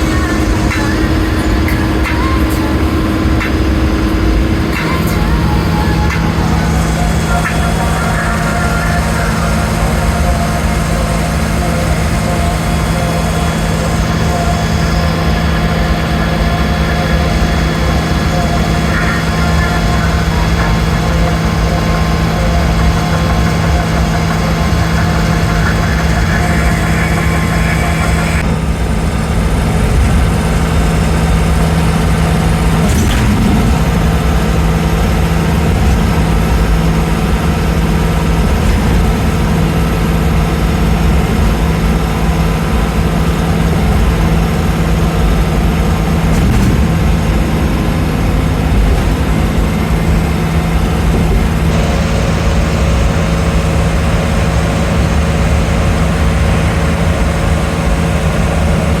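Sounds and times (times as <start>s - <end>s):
road noise hum: 0.0s - 59.0s
vehicle engine running: 0.0s - 59.0s.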